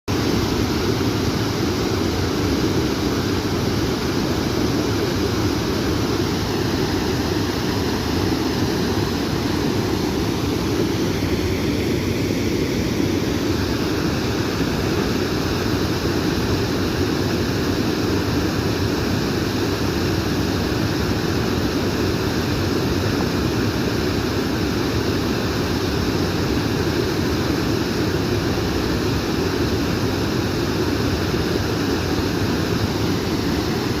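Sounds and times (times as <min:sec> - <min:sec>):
water rushing: 0:00.1 - 0:34.0.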